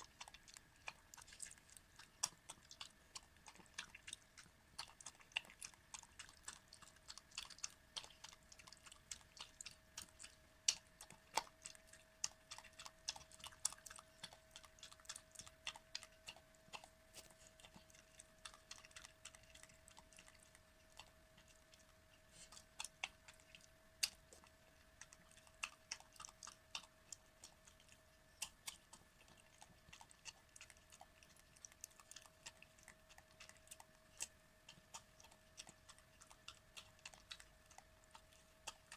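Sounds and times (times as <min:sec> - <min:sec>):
dog chewing wet food: 0:00.0 - 0:38.9
faint steady hum: 0:00.0 - 0:38.9.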